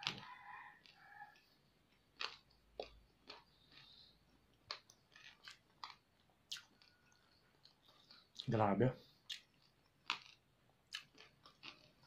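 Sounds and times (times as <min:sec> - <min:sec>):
mouth chewing crispy food: 0:00.0 - 0:12.0.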